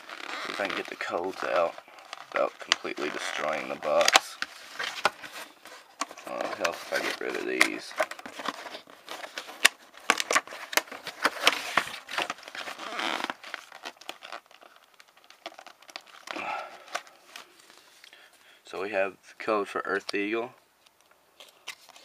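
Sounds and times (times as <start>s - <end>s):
plastic packaging crinkling: 0.0s - 18.3s, 21.4s - 22.0s.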